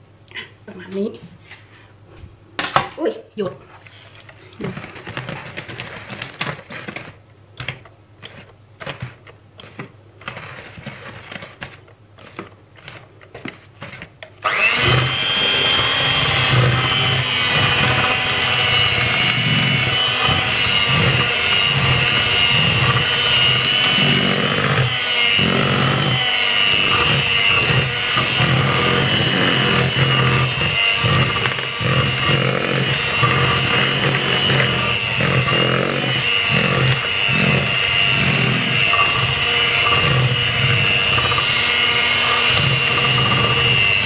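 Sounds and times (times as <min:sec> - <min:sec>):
electric hand mixer whining: 0:04.6 - 0:44.0.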